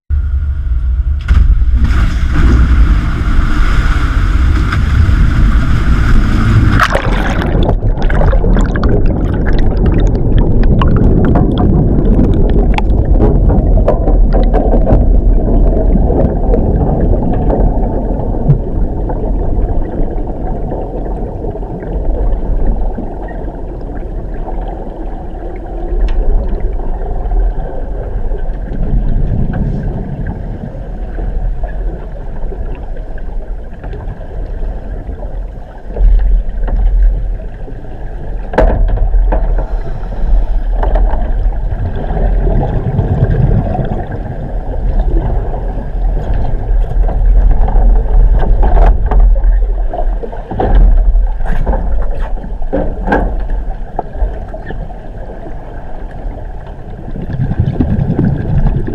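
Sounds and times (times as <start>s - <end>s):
deep rumble: 0.1s - 58.9s
churning water: 1.3s - 58.9s.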